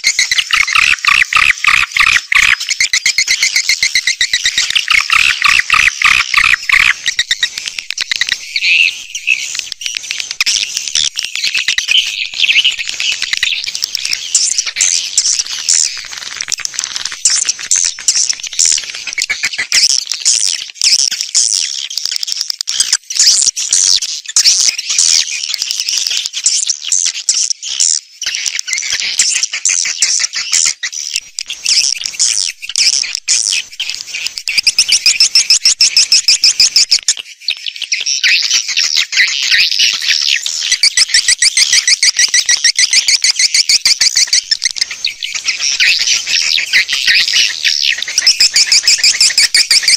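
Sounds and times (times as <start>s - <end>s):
swiftlets chirping and twittering: 0.0s - 49.9s.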